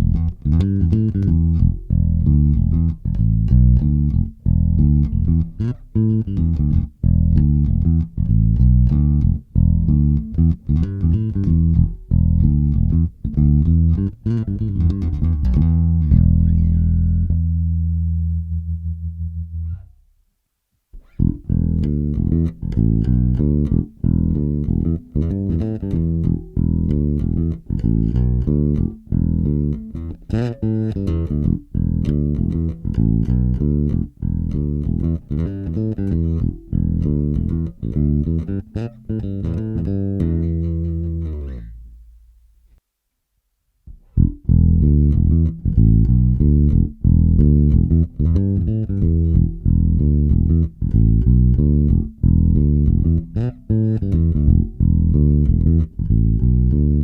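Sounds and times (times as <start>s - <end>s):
bass guitar plucked groove: 0.0s - 20.1s, 20.9s - 42.7s, 43.9s - 57.0s.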